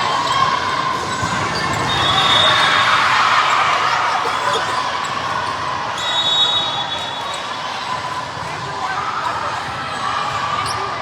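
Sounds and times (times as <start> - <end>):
crowd noise: 0.0 - 11.0.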